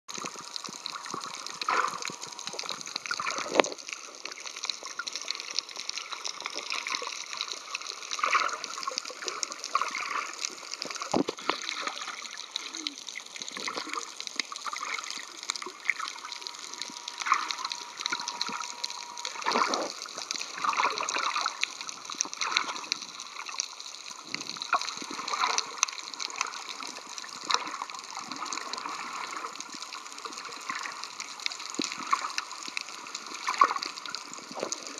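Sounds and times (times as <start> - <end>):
faint steady tone: 0.1 - 34.9
underwater crackling hiss: 0.1 - 34.9
water swishing: 0.1 - 34.9.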